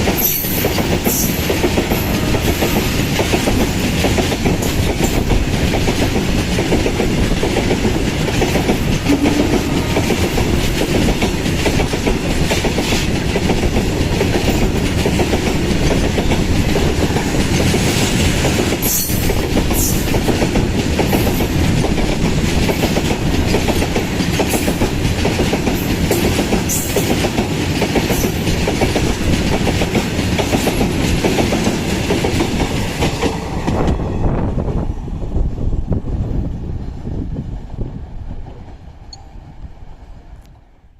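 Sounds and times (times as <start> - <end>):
train wheels clacking over rail joints: 0.0 - 34.0.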